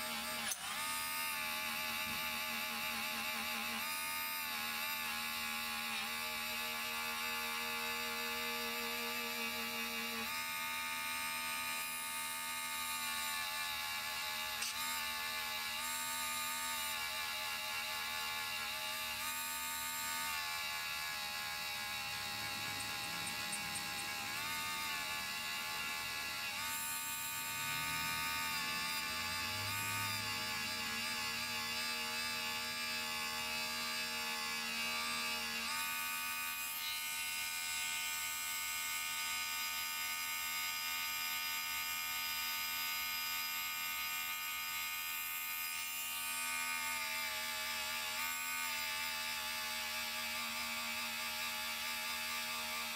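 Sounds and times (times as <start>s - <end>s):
rotary tool motor whine: 0.0s - 52.9s.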